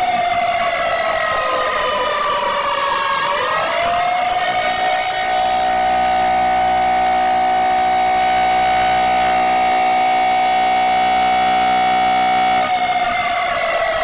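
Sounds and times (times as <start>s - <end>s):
emergency alert siren tone: 0.0s - 14.0s.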